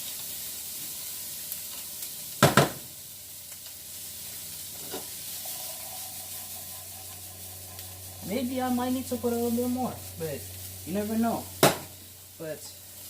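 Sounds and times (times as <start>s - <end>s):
garlic and onion sizzling: 0.0s - 13.0s.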